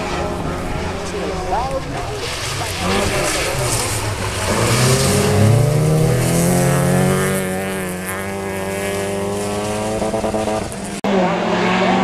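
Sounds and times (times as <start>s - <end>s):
racing engines at high revs: 0.0s - 12.0s.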